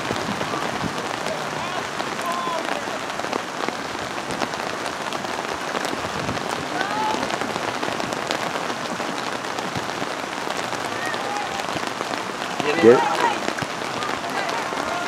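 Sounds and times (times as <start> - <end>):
raindrops ticking on a surface: 0.0 - 15.0.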